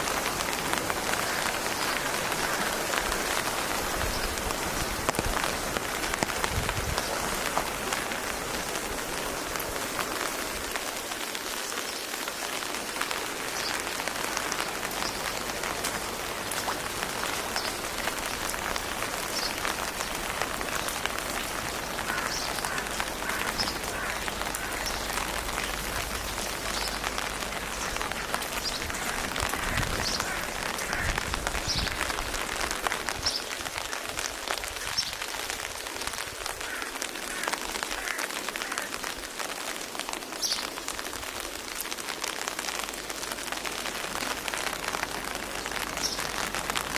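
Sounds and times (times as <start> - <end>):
rain pattering on a surface: 0.0 - 46.9.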